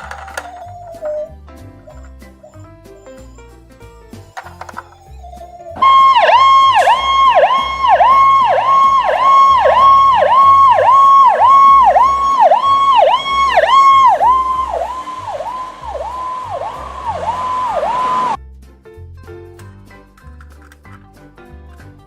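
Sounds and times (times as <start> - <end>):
emergency vehicle siren: 0.0 - 18.4.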